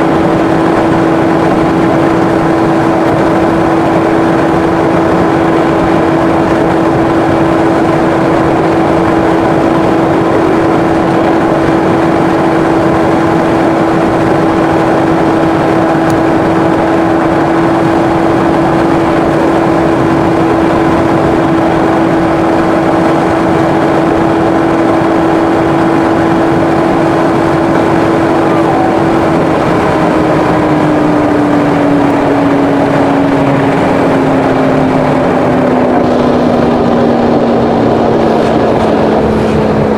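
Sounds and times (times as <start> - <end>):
car engine and road drone: 0.0 - 39.9
humming tone sliding lower: 0.0 - 39.9.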